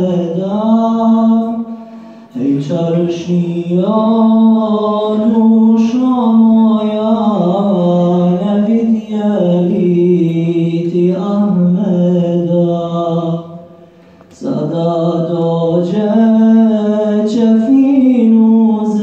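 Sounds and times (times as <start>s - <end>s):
unaccompanied voices singing: 0.0s - 13.5s, 14.3s - 19.0s.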